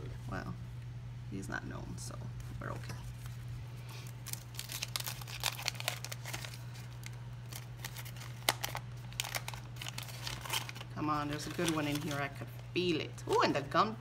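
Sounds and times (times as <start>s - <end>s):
steady low hum: 0.0s - 14.0s
wax paper wrapper crinkling: 2.4s - 14.0s.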